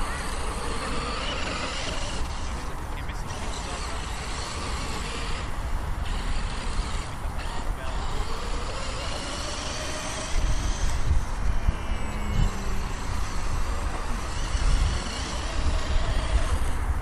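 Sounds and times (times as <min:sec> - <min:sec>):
model airplane motor whine: 0:00.0 - 0:17.0
wind buffeting microphone: 0:00.0 - 0:17.0.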